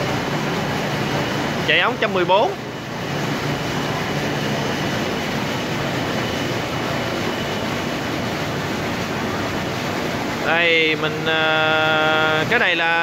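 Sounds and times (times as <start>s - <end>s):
electric pump running: 0.0s - 13.0s
water stream splashing into river: 0.0s - 13.0s.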